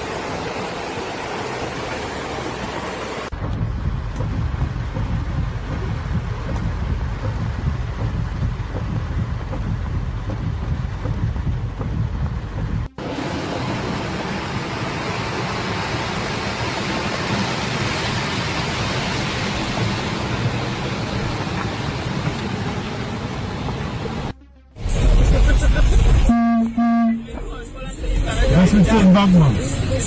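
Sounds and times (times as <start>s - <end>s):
hiss of driving rain: 0.0s - 24.3s.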